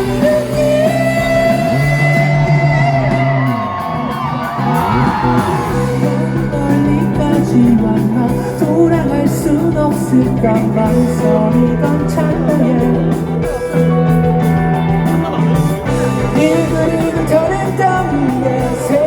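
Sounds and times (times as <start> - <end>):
live rock band instrumental: 0.0 - 19.0
sliding bending guitar notes: 0.0 - 19.0.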